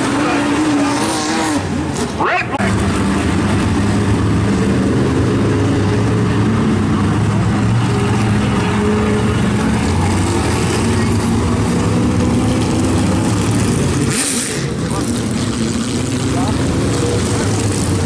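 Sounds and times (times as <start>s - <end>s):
race truck engines passing: 0.0s - 18.0s.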